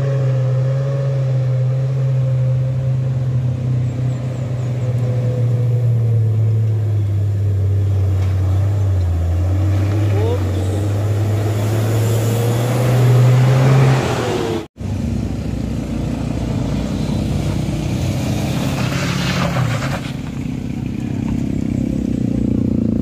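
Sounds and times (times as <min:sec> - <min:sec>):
car and motorcycle engines: 0:00.0 - 0:23.0
coach engine passing: 0:01.2 - 0:23.0.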